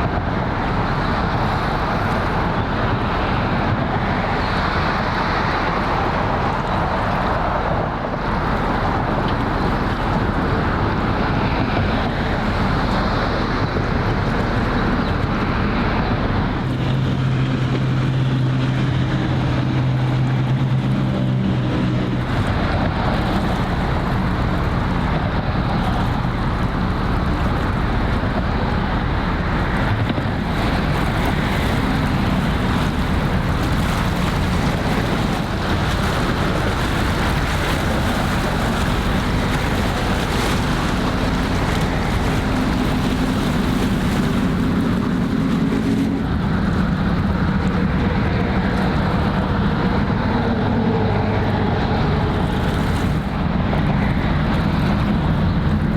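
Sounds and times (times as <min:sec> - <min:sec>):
ship engine hum: 0:00.0 - 0:55.9
water washing: 0:00.0 - 0:55.9
wind noise on microphone: 0:00.0 - 0:55.9.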